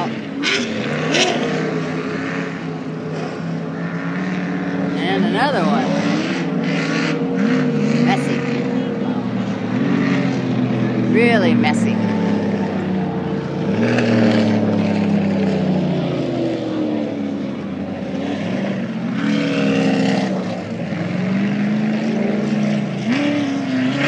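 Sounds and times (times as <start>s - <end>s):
off-road vehicle engines: 0.0s - 24.0s.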